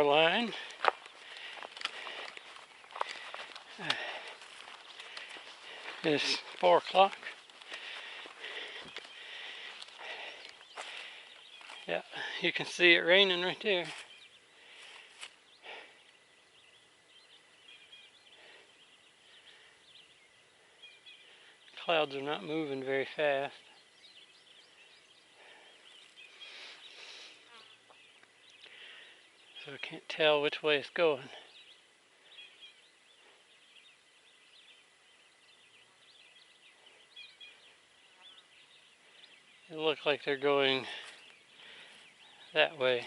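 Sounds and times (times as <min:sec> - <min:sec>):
faint bird chirps: 0:00.0 - 0:43.0.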